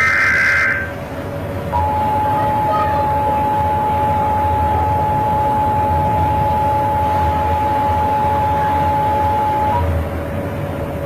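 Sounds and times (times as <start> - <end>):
long steady electronic tone: 0.0 - 1.1, 1.7 - 10.0
low hum: 0.0 - 11.0.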